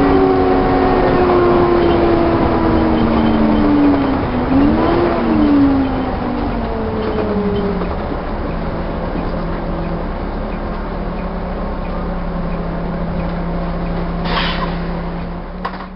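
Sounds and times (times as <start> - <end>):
bus engine idling: 0.0 - 15.9.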